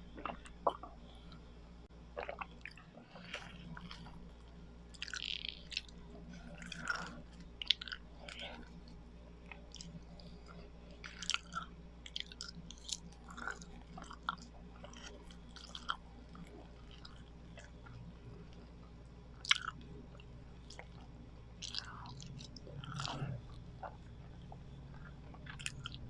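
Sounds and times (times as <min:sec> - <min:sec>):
sticky wet chewing: 0:02.2 - 0:17.9, 0:19.4 - 0:19.9, 0:20.6 - 0:26.0.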